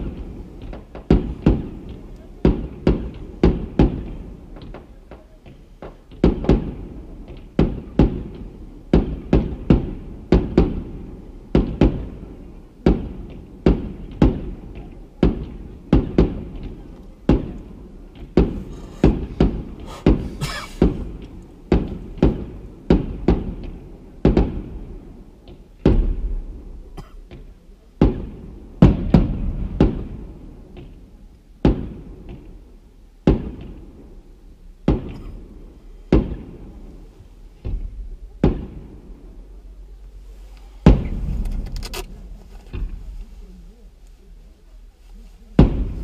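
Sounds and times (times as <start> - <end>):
fireworks bursting with bangs: 0.0 - 46.0.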